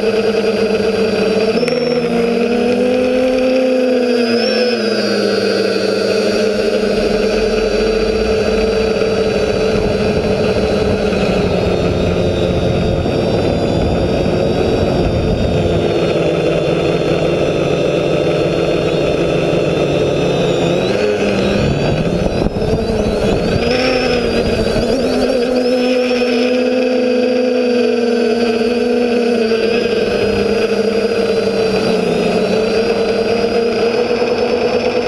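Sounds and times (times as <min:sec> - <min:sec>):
quadcopter propellers buzzing: 0:00.0 - 0:35.0.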